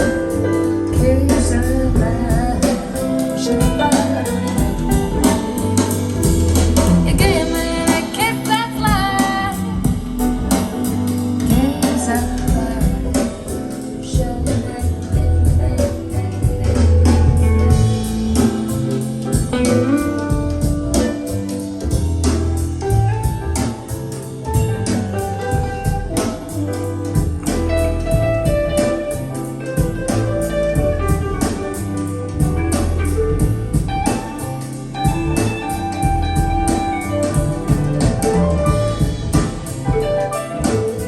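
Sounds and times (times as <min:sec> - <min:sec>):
guitar-led music over speakers: 0:00.0 - 0:41.0
steady drum beat: 0:00.0 - 0:41.0.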